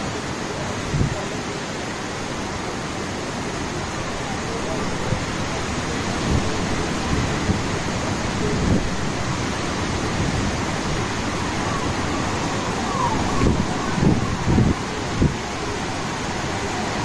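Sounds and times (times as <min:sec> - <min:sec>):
heavy rain pouring: 0:00.0 - 0:17.0
wind gusts buffeting microphone: 0:00.0 - 0:17.0.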